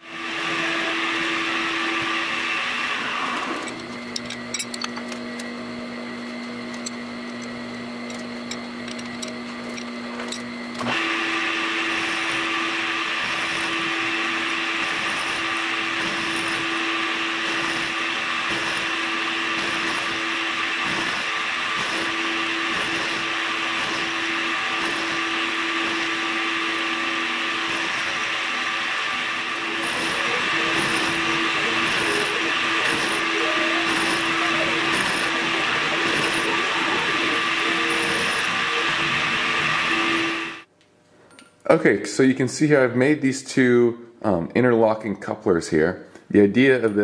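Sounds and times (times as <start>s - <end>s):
milling machine cutting metal: 0.0s - 40.7s.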